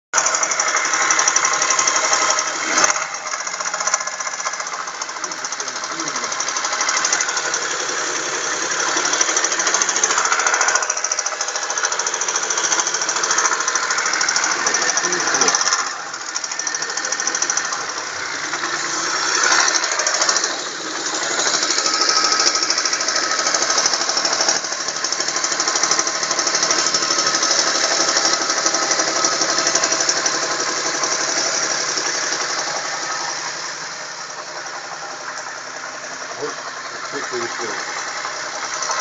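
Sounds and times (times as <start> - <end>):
car engine running: 0.1 - 39.0
engine knocking ticking: 0.1 - 39.0.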